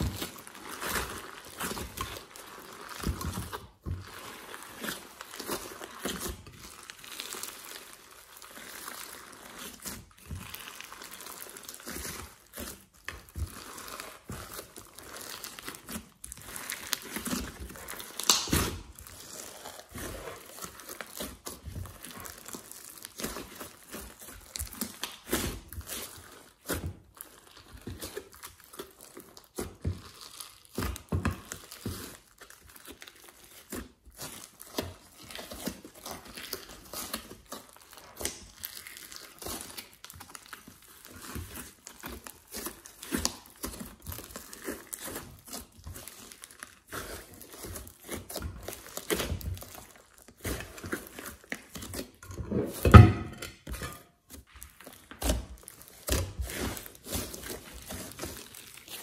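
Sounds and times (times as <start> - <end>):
slime squishing with crackles: 0.0 - 59.0.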